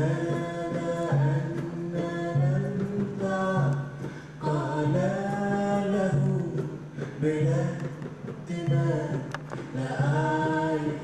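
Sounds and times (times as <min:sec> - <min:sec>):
man singing: 0:00.0 - 0:11.0
woman singing: 0:00.0 - 0:11.0.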